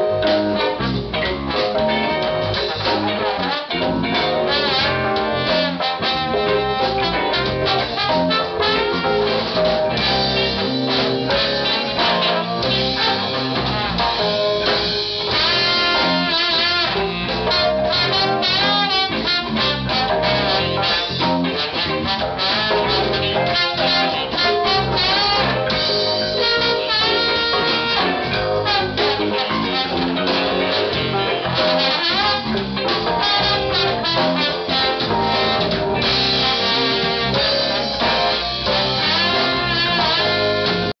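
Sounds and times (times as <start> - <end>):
electric guitar: 0.0 - 40.9
drum kit: 0.0 - 41.0
horns: 0.0 - 41.0.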